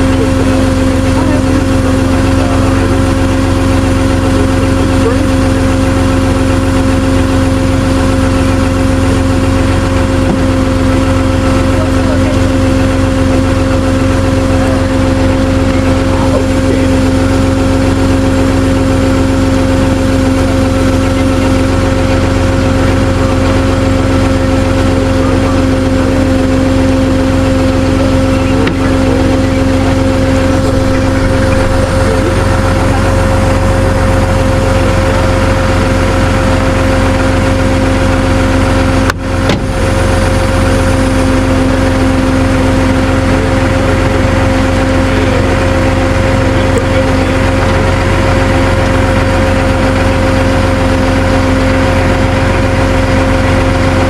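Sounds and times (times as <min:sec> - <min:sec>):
truck engine droning: 0:00.0 - 0:54.0.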